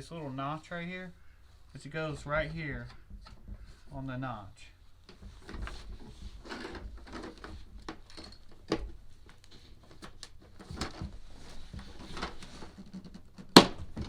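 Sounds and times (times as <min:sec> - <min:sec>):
plastic parts clicking and knocking: 0:01.2 - 0:14.0.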